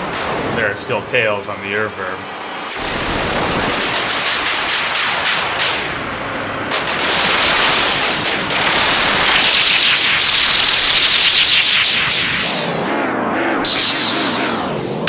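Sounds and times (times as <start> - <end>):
synthesizer laser zaps with reverb: 1.9 - 15.0.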